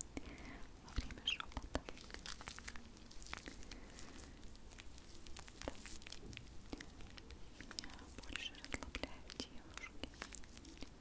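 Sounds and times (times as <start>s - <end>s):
small crackles and clicks: 0.0s - 11.0s.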